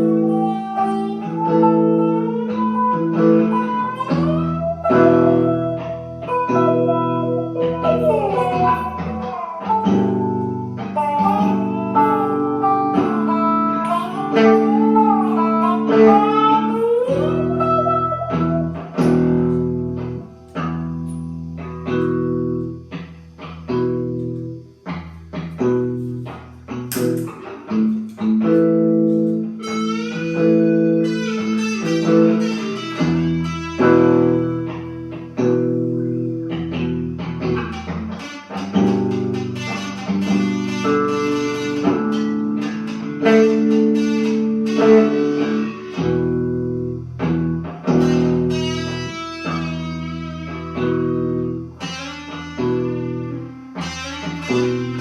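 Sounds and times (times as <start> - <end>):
blues guitar chords: 0.0 - 55.0
sliding guitar lead melody: 0.0 - 55.0.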